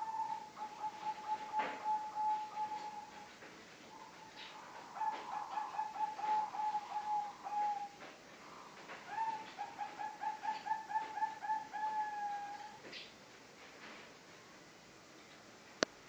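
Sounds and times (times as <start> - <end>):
dove cooing: 0.0 - 12.9.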